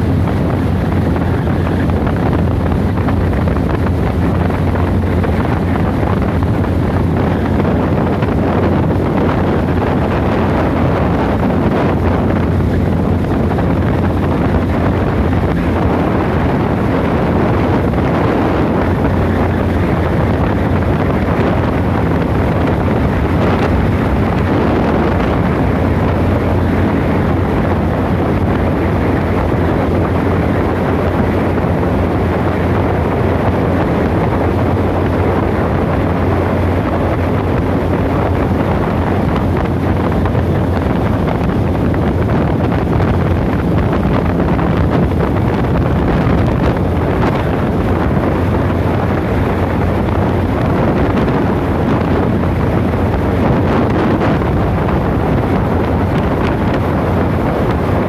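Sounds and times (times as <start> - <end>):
boat motor humming: 0.0 - 58.0
wind buffeting microphone: 0.0 - 58.0.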